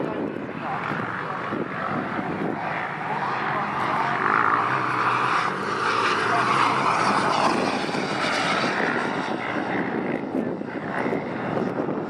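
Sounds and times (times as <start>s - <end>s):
jet turbine roar: 0.0s - 12.0s.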